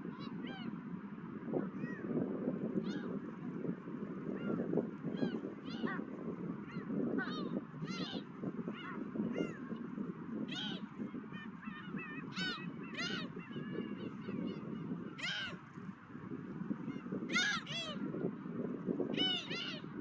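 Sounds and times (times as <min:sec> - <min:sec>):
low rumble of wind: 0:00.0 - 0:20.0
gulls calling: 0:01.6 - 0:03.5, 0:04.2 - 0:15.8, 0:16.5 - 0:18.3, 0:19.0 - 0:20.0.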